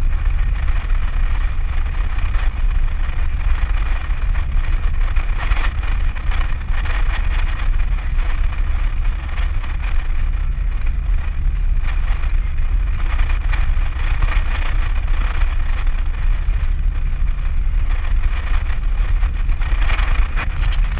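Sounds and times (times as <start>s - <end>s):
engine and road rumble: 0.0s - 20.9s.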